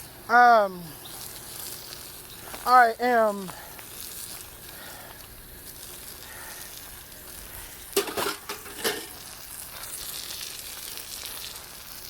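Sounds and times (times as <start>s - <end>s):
water running from a hose: 0.0s - 12.0s.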